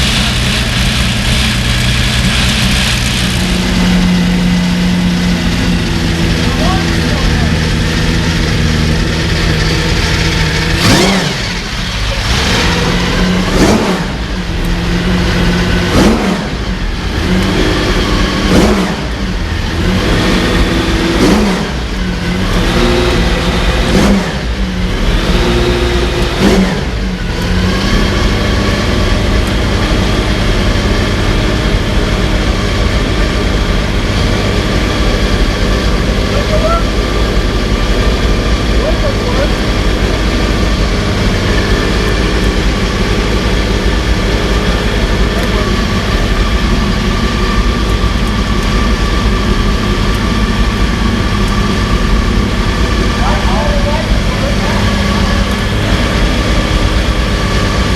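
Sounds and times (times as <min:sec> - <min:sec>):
racing engine revving and idling: 0:00.0 - 0:57.9.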